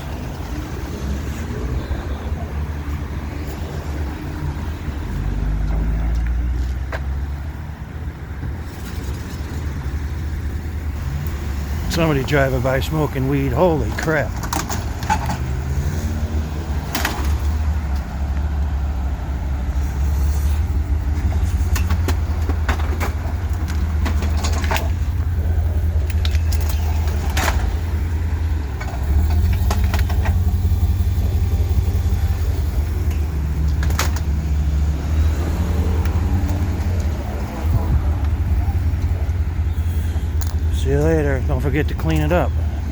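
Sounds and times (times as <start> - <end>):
vehicle engines rumbling: 0.0 - 42.9.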